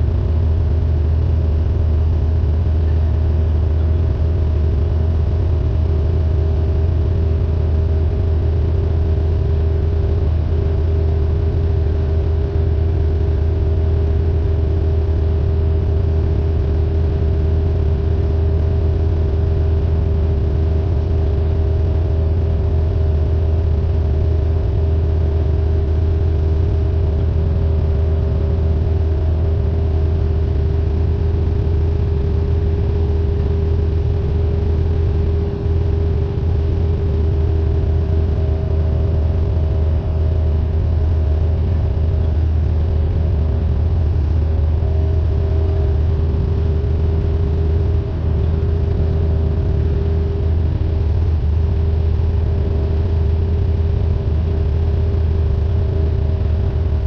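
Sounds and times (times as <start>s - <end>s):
airplane propeller engine drone: 0.0s - 57.0s.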